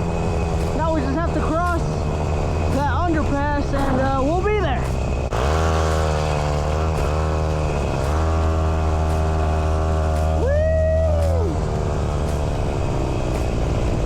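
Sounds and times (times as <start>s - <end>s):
truck diesel engine drone: 0.0s - 14.0s.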